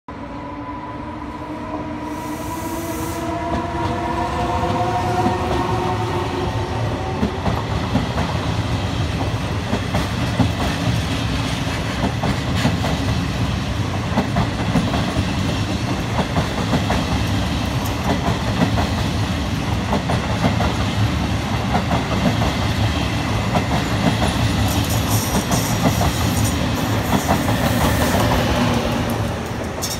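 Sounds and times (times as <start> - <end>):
train coaches rumbling past: 0.1 - 29.9.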